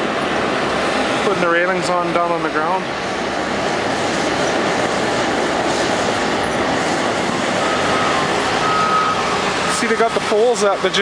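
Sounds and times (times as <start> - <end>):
heavy machinery running: 0.0 - 11.0.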